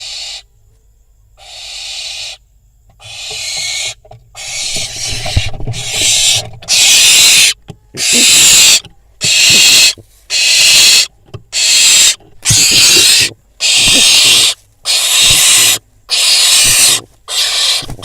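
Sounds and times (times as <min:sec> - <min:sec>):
owl chick rasping screeches: 0:00.0 - 0:00.5, 0:01.4 - 0:02.4, 0:03.0 - 0:18.0.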